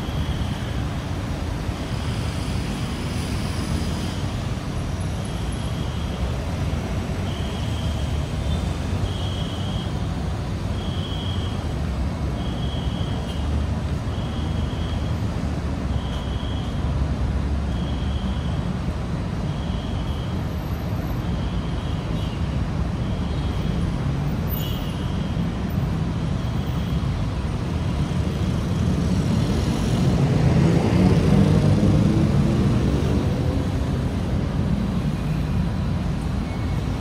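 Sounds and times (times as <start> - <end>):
city traffic rumble: 0.0 - 37.0.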